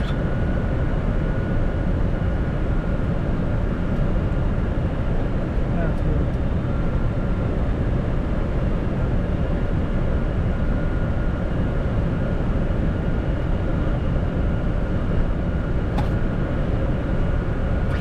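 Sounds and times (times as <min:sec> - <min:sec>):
cockpit airflow and engine noise: 0:00.0 - 0:18.0.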